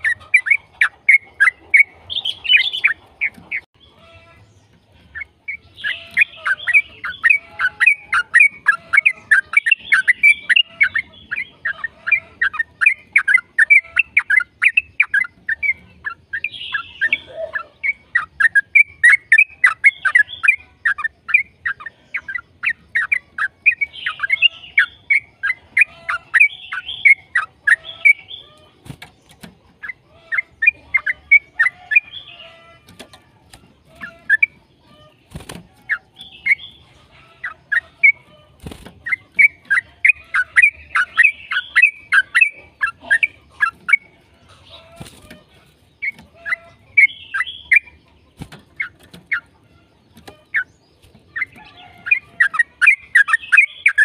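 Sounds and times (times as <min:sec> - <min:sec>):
bulbul singing fast chirps: 0:00.0 - 0:54.0.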